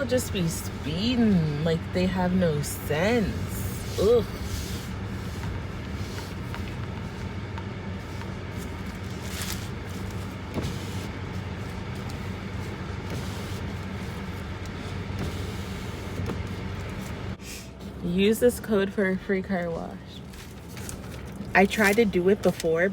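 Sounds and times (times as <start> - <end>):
car engine hum inside cabin: 0.0 - 22.9.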